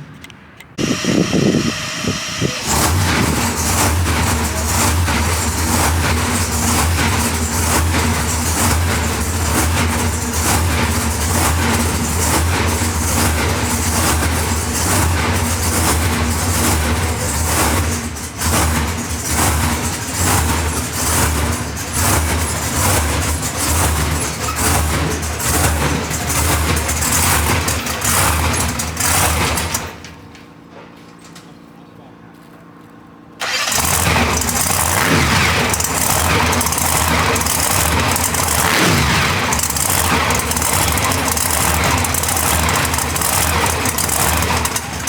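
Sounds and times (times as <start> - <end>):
heavy engine running: 0.0 - 32.1, 32.7 - 45.0.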